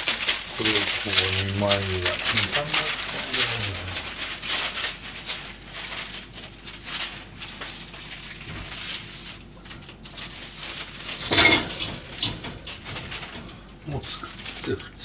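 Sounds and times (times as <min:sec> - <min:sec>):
faint clicks and rustles: 0:00.0 - 0:15.0.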